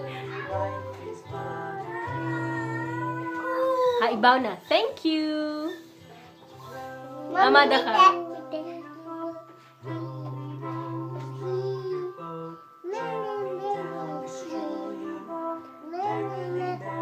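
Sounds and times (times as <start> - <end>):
person singing: 0.0 - 4.0, 6.6 - 17.0
children's song instrumental: 0.0 - 17.0.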